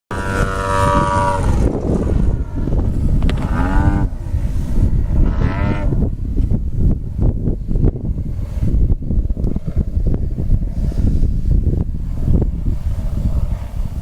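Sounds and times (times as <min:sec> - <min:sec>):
gusty wind buffeting microphone: 0:00.1 - 0:14.0.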